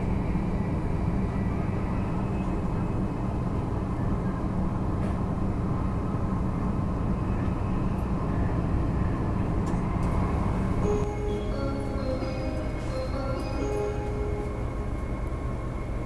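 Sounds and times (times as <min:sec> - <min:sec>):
train cabin rumble and hum: 0:00.0 - 0:16.0.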